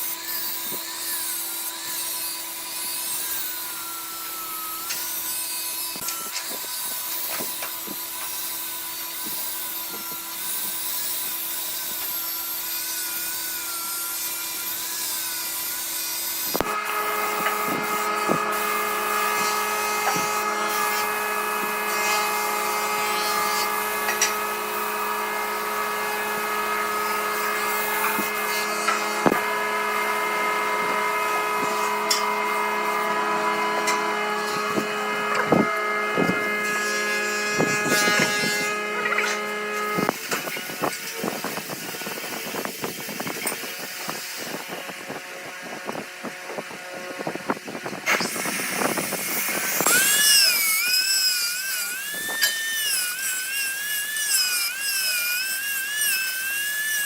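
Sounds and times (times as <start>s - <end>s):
tool scraping spinning wood: 0.0s - 57.0s
wood lathe motor whine: 0.0s - 57.0s.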